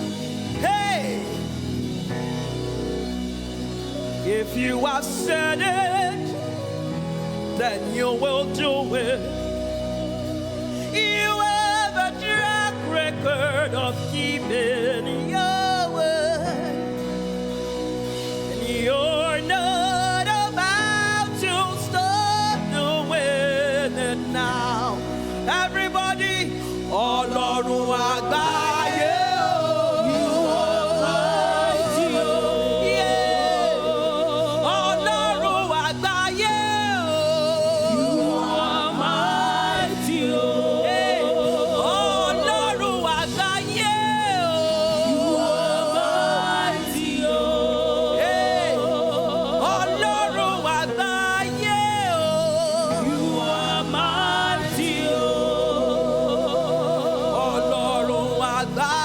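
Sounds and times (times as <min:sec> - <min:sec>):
keyboard and bass chords: 0:00.0 - 0:59.0
singers with vibrato: 0:00.0 - 0:59.0.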